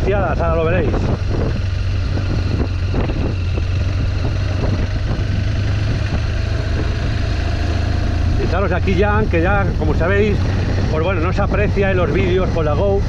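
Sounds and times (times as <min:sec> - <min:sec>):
motorcycle engine running: 0:00.0 - 0:13.0
wind rush: 0:00.0 - 0:13.0.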